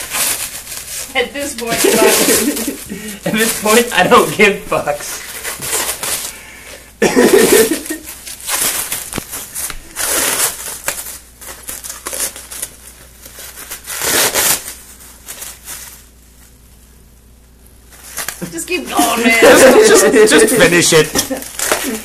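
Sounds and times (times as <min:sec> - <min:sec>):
plastic wrap crinkling and tearing: 0:00.0 - 0:06.4, 0:07.1 - 0:16.5, 0:17.9 - 0:22.0.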